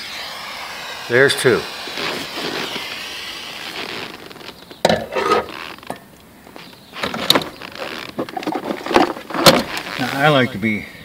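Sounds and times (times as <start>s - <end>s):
gas torch hissing: 0.0s - 8.4s, 9.2s - 10.9s.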